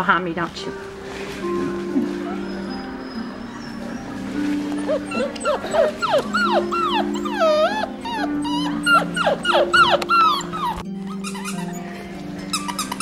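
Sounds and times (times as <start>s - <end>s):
background music with held notes: 0.0s - 13.0s
puppies whimpering and yipping: 1.7s - 13.0s.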